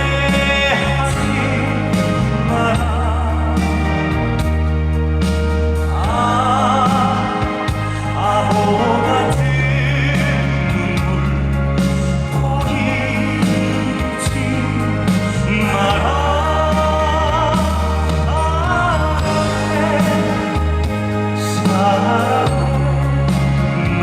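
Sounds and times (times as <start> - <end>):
band accompaniment: 0.0 - 24.0
man singing a slow ballad: 0.0 - 24.0.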